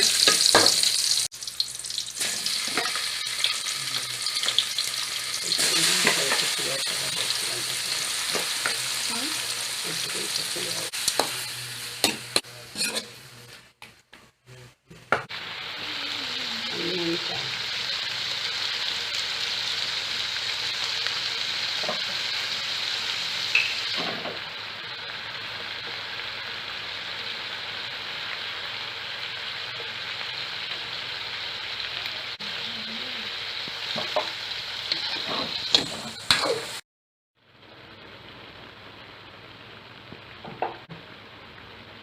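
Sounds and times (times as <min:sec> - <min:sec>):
chicken sizzling in hot oil: 0:00.0 - 0:13.2, 0:15.3 - 0:36.8, 0:37.4 - 0:42.0.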